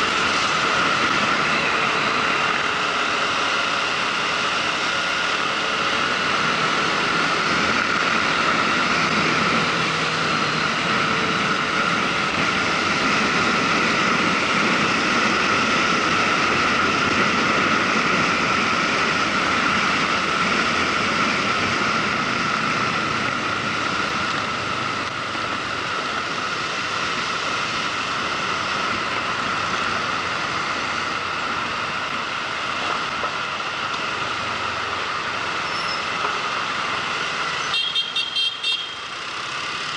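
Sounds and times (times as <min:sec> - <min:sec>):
wind rushing over microphone: 0:00.0 - 0:34.7
motorcycle engine: 0:00.0 - 0:39.9
road noise: 0:00.0 - 0:39.9.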